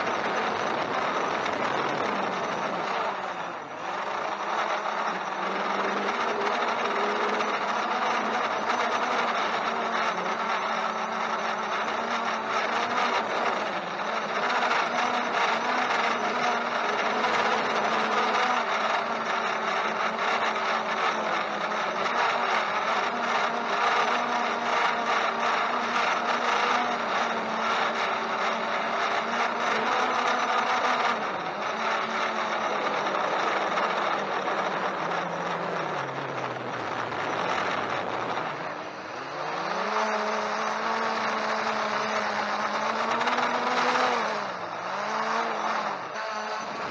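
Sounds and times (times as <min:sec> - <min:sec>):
quadcopter propellers whirring: 0:00.0 - 0:46.9.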